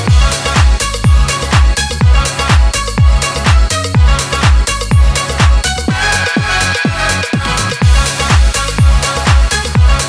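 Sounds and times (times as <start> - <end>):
kick drum: 0.0 - 10.0
synth chords: 0.0 - 10.0.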